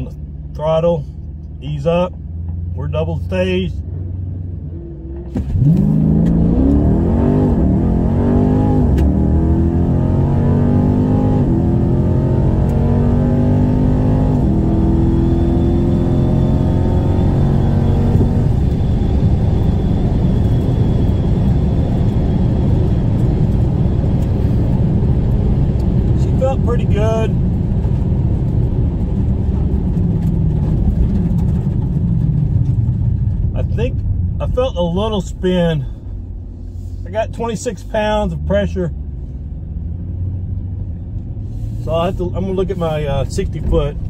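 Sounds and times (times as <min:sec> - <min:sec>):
car engine at full throttle: 0:00.0 - 0:44.0
road and wind noise: 0:00.0 - 0:44.0.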